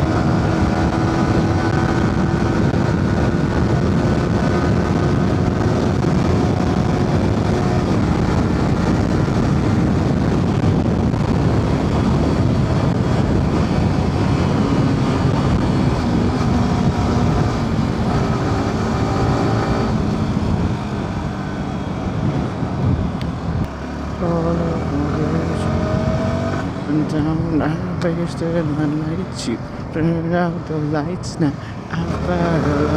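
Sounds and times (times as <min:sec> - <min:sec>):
motorcycle engine running: 0:00.0 - 0:32.9
wind rushing: 0:00.0 - 0:32.9.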